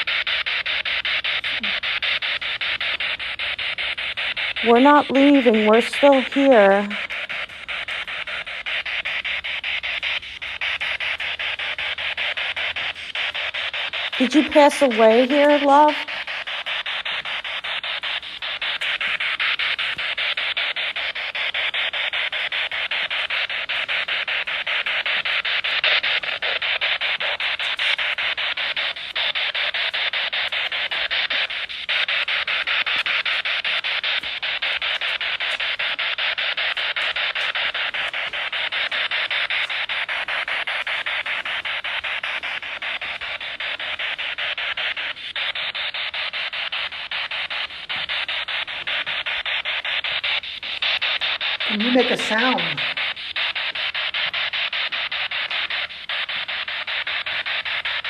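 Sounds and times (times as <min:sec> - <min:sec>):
static hiss with flutter: 0:00.0 - 0:58.0.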